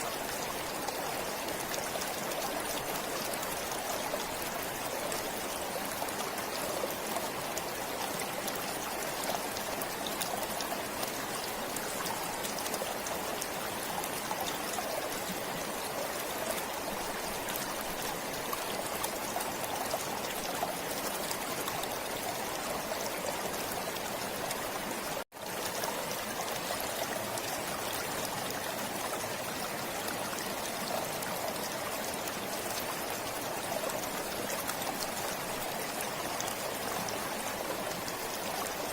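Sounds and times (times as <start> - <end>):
forest stream flowing: 0.0 - 38.9.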